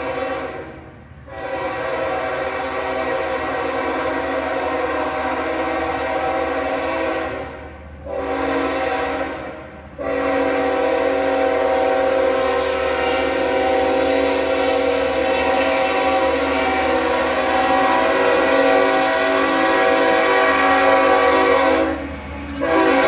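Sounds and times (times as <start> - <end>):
locomotive air horn blasts: 0.0 - 23.0.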